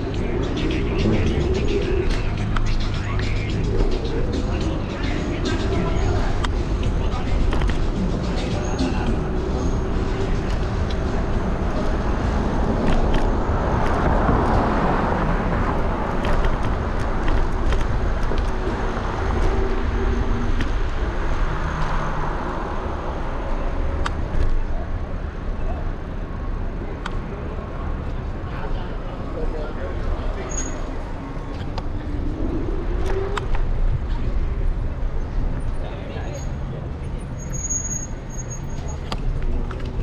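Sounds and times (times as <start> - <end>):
city traffic: 0.0 - 40.0
road noise rumble: 0.0 - 40.0.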